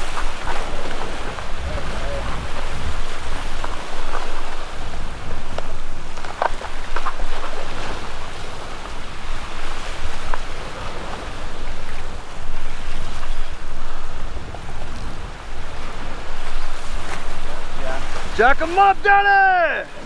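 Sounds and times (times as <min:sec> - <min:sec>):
surf washing against rocks: 0:00.0 - 0:20.0
wind buffeting microphone: 0:00.0 - 0:20.0.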